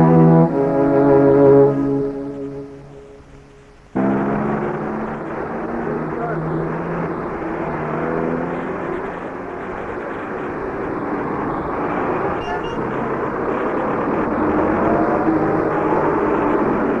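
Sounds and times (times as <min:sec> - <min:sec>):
dense rumbling noise: 0:00.0 - 0:17.0
faint engine tones: 0:00.0 - 0:17.0.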